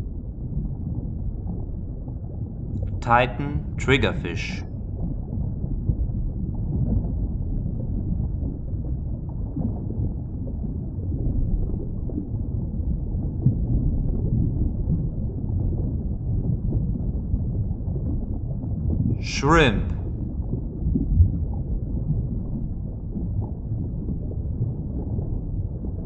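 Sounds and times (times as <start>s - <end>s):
underwater rumble and wash: 0.0s - 3.0s, 4.4s - 19.3s, 20.0s - 26.0s.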